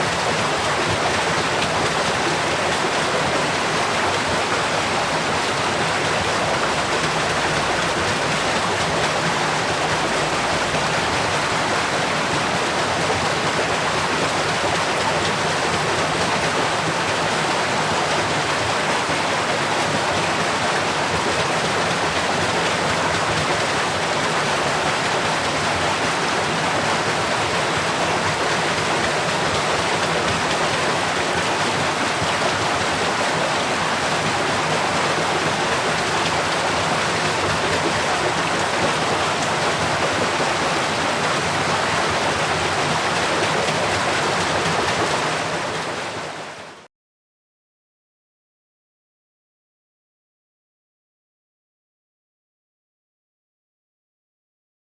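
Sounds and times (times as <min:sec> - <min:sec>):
water rushing over waterwheel: 0:00.0 - 0:46.8.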